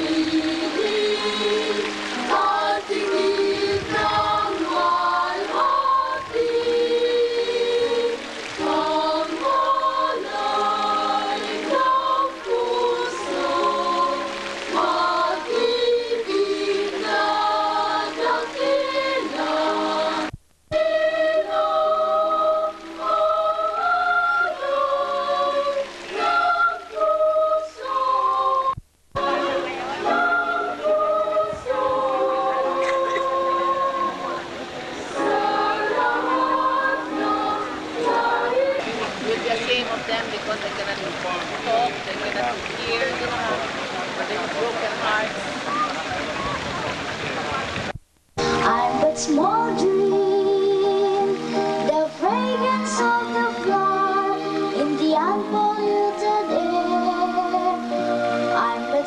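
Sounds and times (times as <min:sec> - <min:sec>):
girls' choir singing in harmony: 0:00.0 - 0:39.2, 0:48.4 - 0:59.0.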